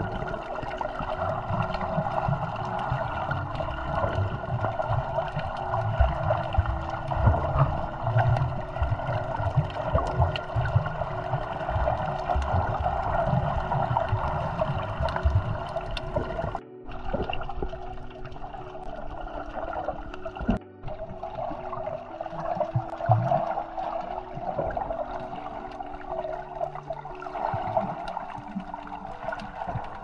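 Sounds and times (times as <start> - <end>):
small underwater clicks: 0.0 - 21.0, 22.3 - 30.0
underwater rumble and hiss: 0.0 - 30.0.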